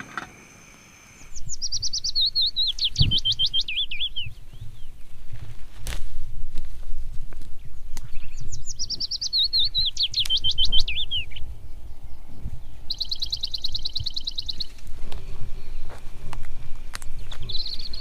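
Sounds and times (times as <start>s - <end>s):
songbirds singing: 0.0s - 5.4s, 7.4s - 18.0s.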